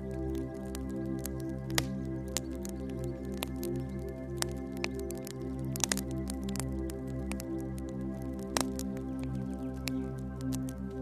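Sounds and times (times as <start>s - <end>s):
soft ambient music: 0.0s - 11.0s
wood fire crackling and popping: 0.0s - 11.0s.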